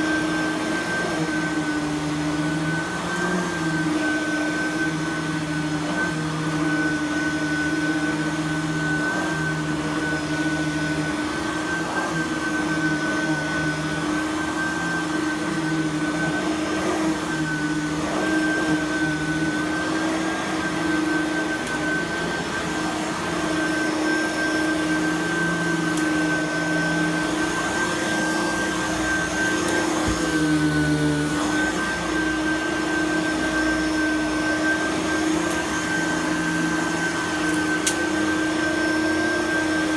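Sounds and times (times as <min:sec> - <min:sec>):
upright vacuum running on carpet: 0:00.0 - 0:39.9.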